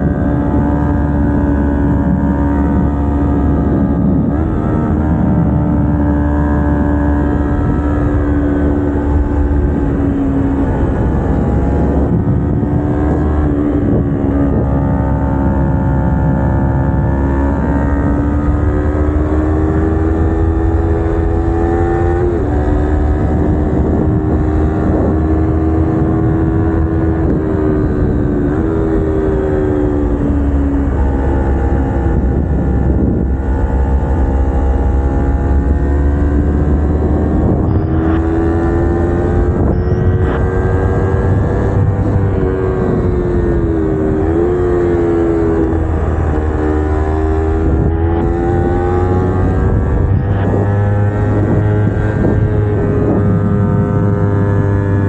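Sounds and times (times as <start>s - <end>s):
motorcycle engine revving: 0.0s - 55.0s
wind rumbling on microphone: 0.0s - 55.0s.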